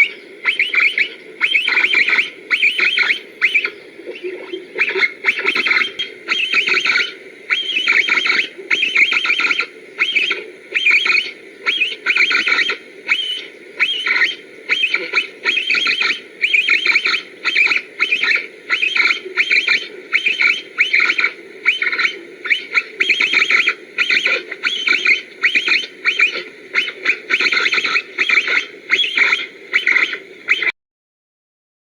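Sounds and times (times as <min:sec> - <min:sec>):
game call clicking and chirping: 0:00.0 - 0:30.7.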